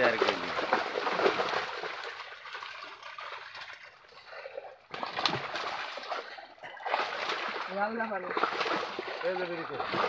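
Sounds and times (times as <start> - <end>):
fish splashing in water: 0.0 - 10.0.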